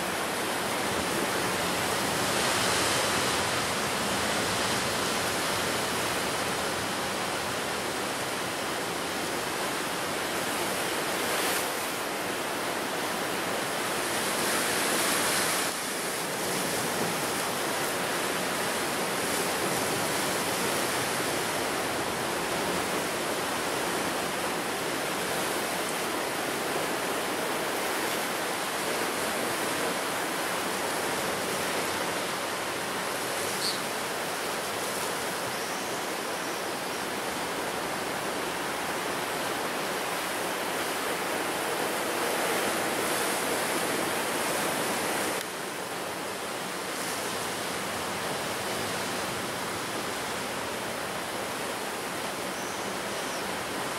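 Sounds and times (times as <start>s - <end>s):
ocean surf breaking on shore: 0.0s - 53.9s.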